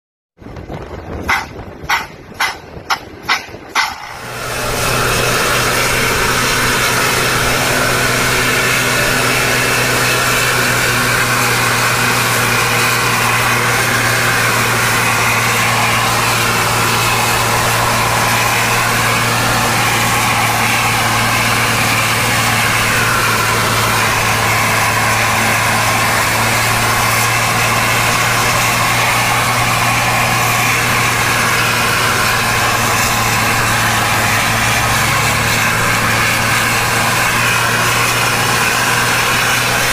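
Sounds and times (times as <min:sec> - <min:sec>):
coach engine drone: 0:00.4 - 0:39.9
road noise: 0:00.4 - 0:39.9.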